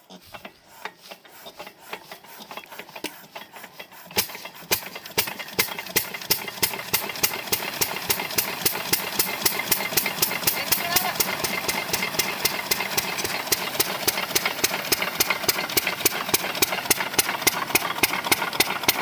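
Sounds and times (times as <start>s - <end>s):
diesel pump engine knocking: 0.3s - 19.0s.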